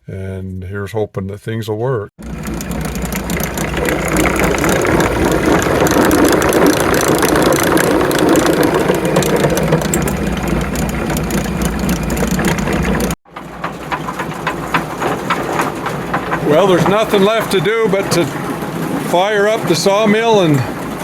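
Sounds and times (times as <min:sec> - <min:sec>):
machine humming and rattling: 0:02.2 - 0:21.0.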